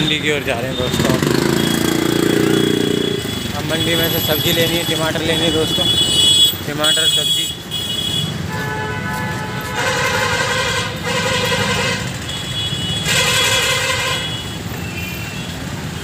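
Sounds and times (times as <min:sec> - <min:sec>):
vehicle horn honking: 0:00.0 - 0:15.6
engine and road rumble: 0:00.0 - 0:16.0.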